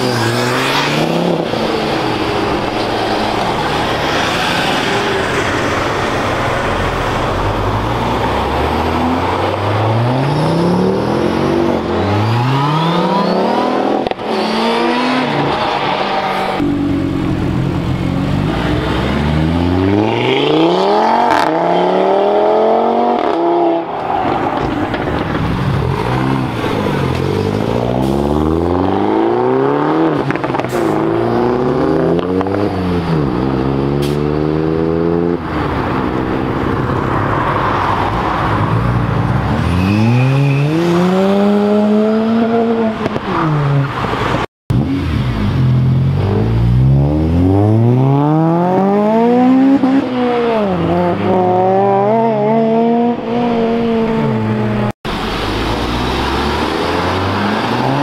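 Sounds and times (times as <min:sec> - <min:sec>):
cars accelerating hard: 0:00.0 - 0:58.0.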